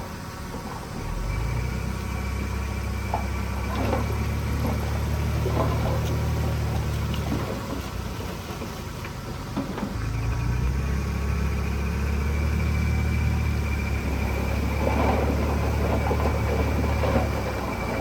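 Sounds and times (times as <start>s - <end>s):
earthmoving machine diesel engine: 0.0s - 18.0s.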